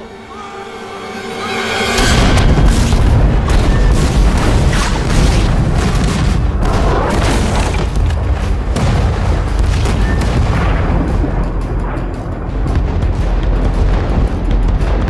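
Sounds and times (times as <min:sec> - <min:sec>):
deep continuous rumble: 0:02.0 - 0:15.0.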